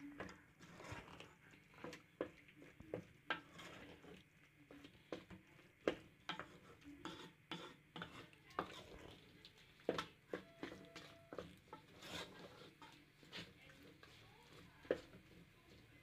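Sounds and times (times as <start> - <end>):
wooden spoon stirring stew: 0.0 - 16.0.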